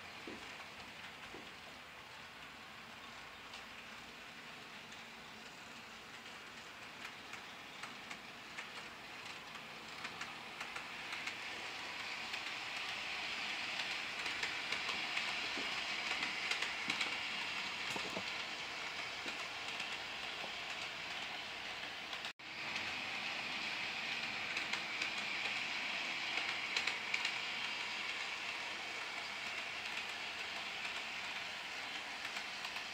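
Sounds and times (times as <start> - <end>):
model train running on track: 0.0 - 32.9.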